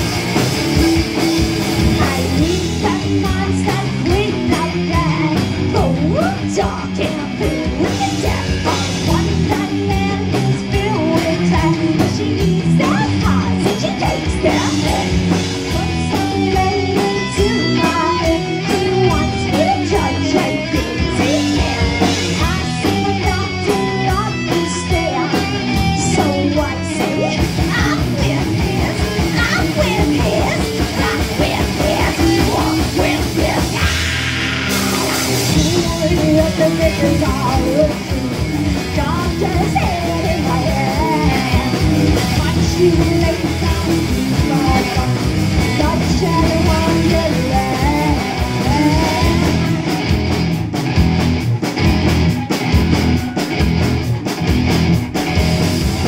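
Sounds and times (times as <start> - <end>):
drum kit fast hits: 0.0 - 24.1, 27.0 - 56.0
heavy metal band playing: 0.0 - 56.0
woman singing: 1.8 - 50.0.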